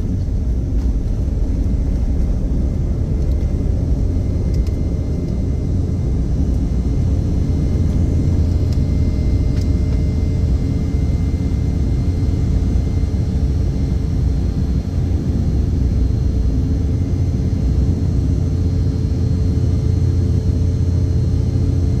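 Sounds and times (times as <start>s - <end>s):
engine rumble and rushing air: 0.0s - 22.0s
faint constant hum: 0.0s - 22.0s.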